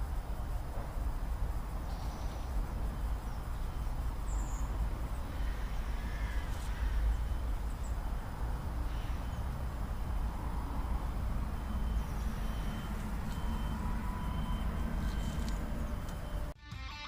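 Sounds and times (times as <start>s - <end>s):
low outdoor rumble: 0.0s - 16.6s
faint bird calls: 1.8s - 16.5s.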